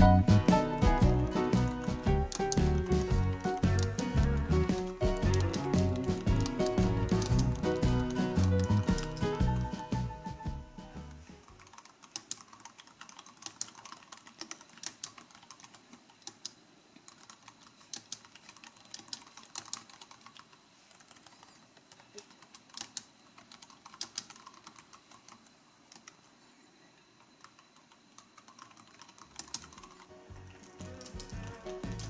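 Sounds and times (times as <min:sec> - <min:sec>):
keyboard keys clicking: 0:00.0 - 0:10.4, 0:11.0 - 0:26.2, 0:27.4 - 0:32.0.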